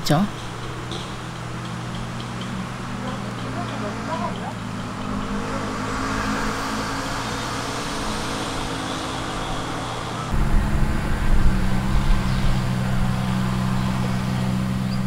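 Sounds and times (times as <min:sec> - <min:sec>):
low mechanical hum: 0:00.0 - 0:15.0
outdoor background noise: 0:00.0 - 0:15.0.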